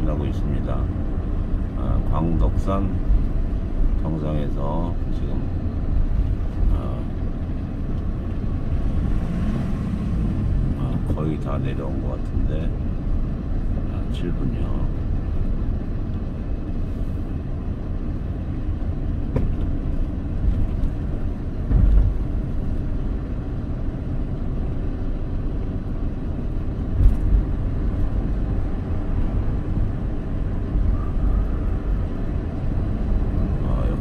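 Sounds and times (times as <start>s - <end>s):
car driving on paved road: 0.0s - 34.0s.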